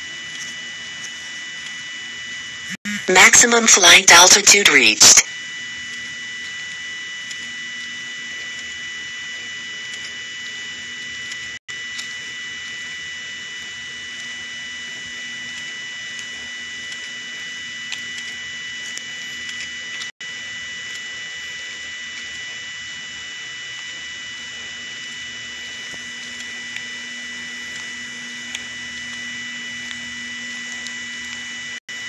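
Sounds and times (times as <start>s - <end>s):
constant high whine: 0.0s - 32.0s.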